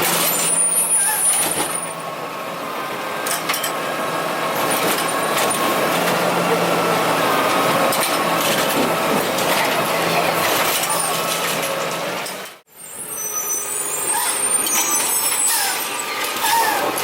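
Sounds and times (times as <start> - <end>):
garbage truck running: 0.0 - 17.0.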